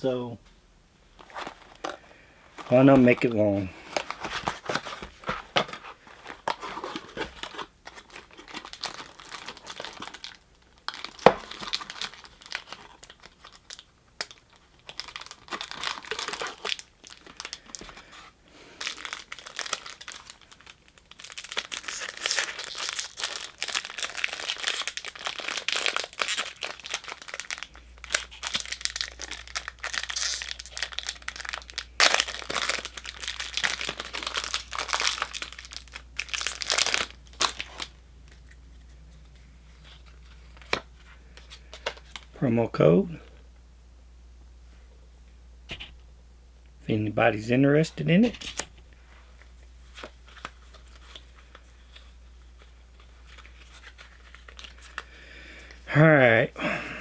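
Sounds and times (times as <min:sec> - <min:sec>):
foil wrapper crinkling and tearing: 0:01.2 - 0:38.8, 0:39.7 - 0:42.3, 0:49.9 - 0:55.9.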